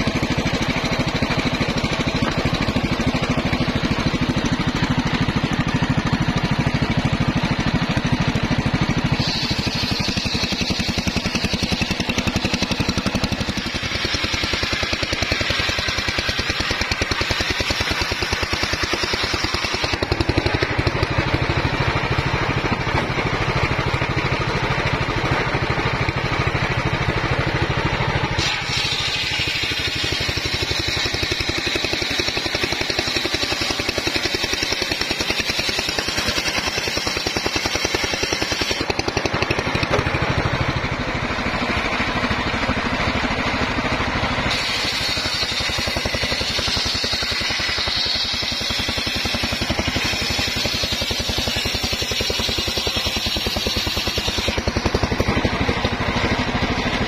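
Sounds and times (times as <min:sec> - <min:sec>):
engine-driven circular saw whining: 0:00.0 - 0:57.0.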